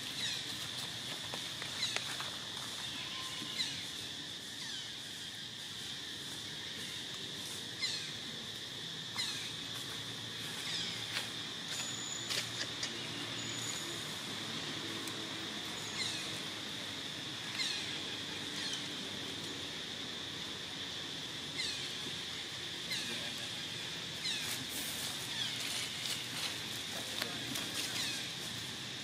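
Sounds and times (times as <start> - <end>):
high insect drone: 0.0 - 29.0
rustling of dry leaves: 0.0 - 29.0.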